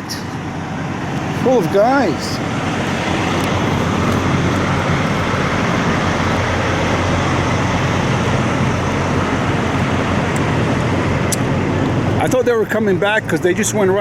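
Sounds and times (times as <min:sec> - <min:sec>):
vehicle engines idling and passing: 0:00.0 - 0:14.0.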